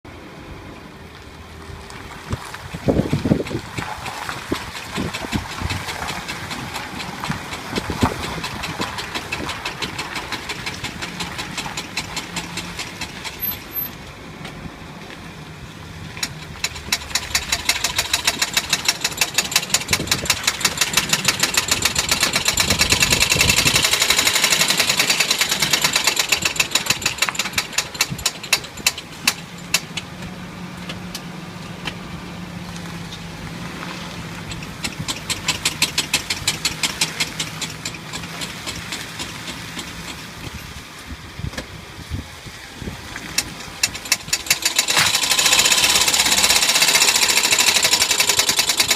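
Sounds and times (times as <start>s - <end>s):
car engine running: 1.9s - 41.2s, 43.2s - 48.9s.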